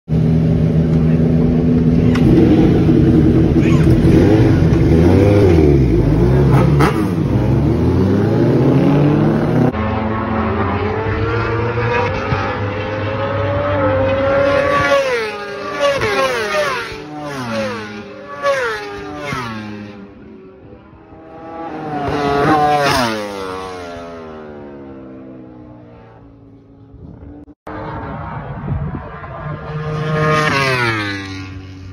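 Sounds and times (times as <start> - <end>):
motorcycle passing: 0.1 - 31.9
motorcycle engine revving: 0.2 - 31.9
racing motorcycles accelerating: 0.2 - 31.9.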